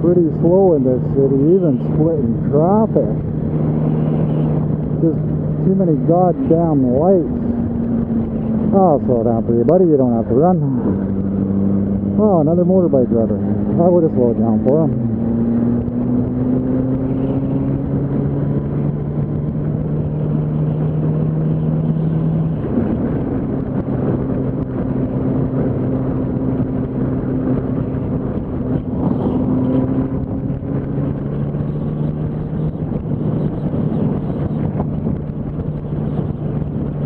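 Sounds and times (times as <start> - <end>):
wind noise: 0.0 - 37.0
motorcycle engine running: 1.4 - 37.0.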